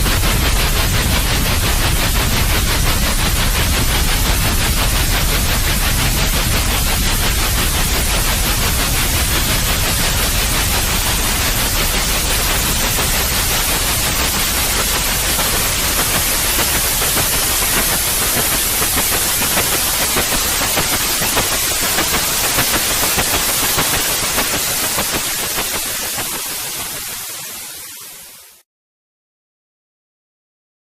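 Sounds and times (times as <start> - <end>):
white noise hiss: 0.0 - 27.9.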